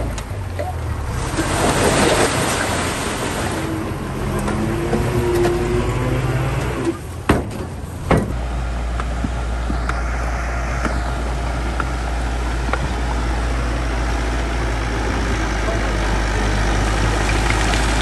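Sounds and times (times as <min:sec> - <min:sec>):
bulldozer diesel engine whining: 0:00.0 - 0:18.0.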